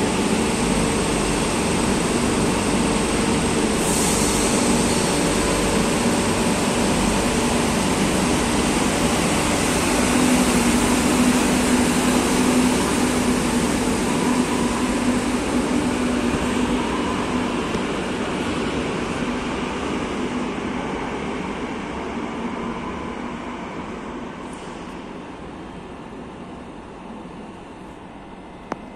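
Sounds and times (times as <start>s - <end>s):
electric train pulling out: 0.0s - 24.5s.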